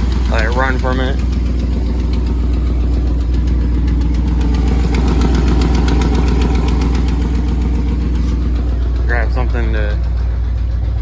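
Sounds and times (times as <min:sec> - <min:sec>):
fast exhaust ticking: 0:00.0 - 0:11.0
truck engine idling: 0:00.0 - 0:11.0.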